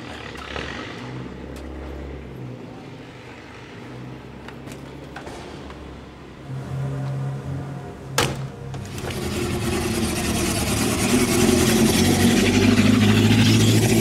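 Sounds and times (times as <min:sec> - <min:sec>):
car engines idling: 0:00.0 - 0:14.0.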